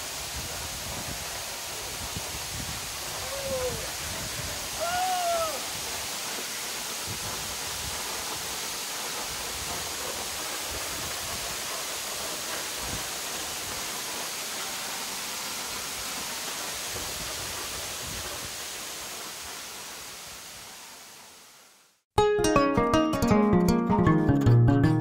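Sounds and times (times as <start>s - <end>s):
waterfall rushing hiss: 0.0s - 22.1s.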